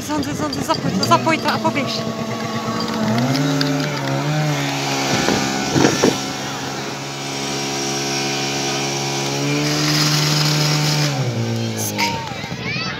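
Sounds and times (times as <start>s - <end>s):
pump engine running at high revs: 0.0s - 12.9s.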